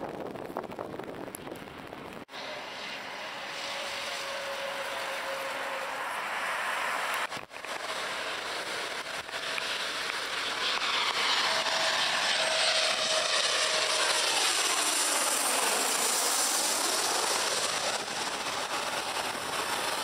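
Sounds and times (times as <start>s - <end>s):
jet airliner engine rushing: 0.0s - 20.0s.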